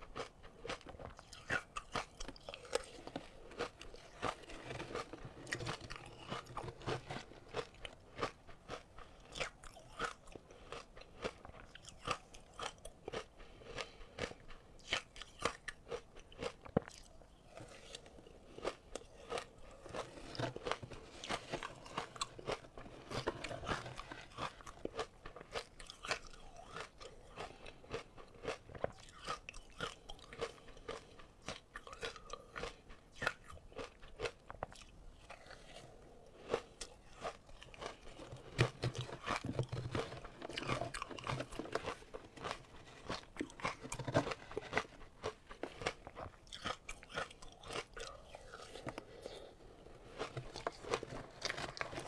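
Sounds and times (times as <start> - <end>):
ice being chewed: 0.0 - 52.0.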